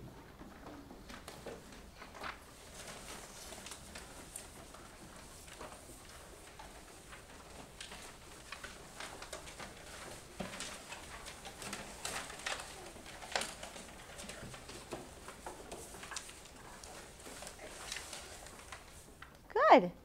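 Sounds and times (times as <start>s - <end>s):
paper rustling: 0.9s - 19.4s.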